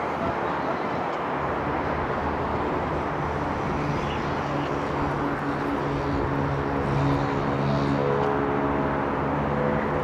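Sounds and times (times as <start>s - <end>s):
locomotive droning hum: 0.0s - 10.0s
road traffic rumble: 0.0s - 10.0s.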